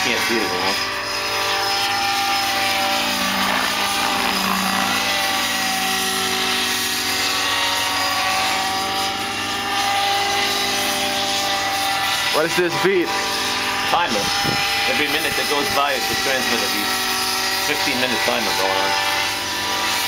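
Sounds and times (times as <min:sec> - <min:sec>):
model helicopter motor whine: 0:00.0 - 0:20.0.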